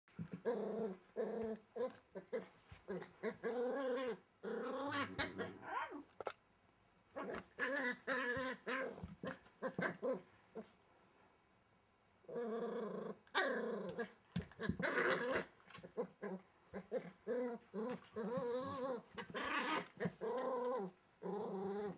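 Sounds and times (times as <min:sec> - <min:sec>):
puppy growling: 0:00.2 - 0:06.1, 0:07.2 - 0:10.7, 0:12.3 - 0:21.9.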